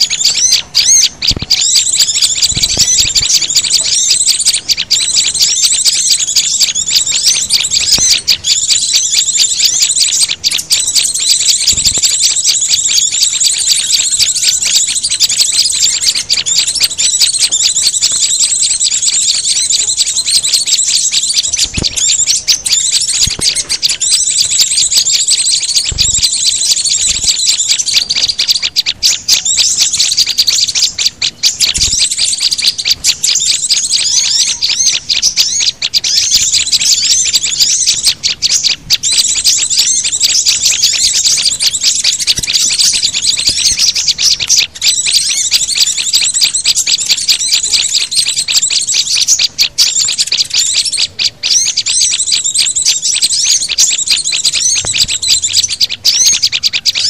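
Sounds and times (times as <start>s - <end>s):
small songbirds chirping and trilling: 0.0s - 57.0s.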